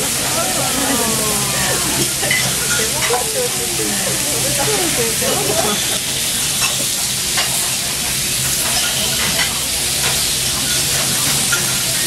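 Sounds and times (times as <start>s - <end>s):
beef sizzling on a griddle: 0.0s - 12.0s.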